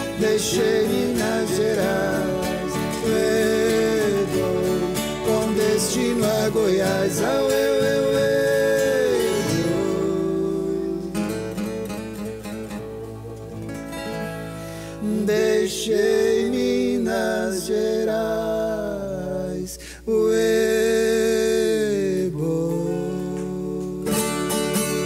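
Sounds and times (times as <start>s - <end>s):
vocal duo singing in harmony: 0.0s - 11.8s, 14.8s - 24.4s
acoustic guitar strumming: 0.0s - 17.9s, 20.6s - 25.0s.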